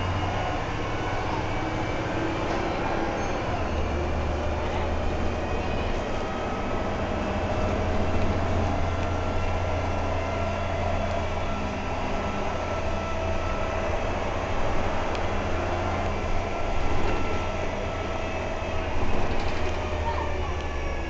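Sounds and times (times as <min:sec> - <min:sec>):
bus diesel engine droning: 0:00.0 - 0:21.0.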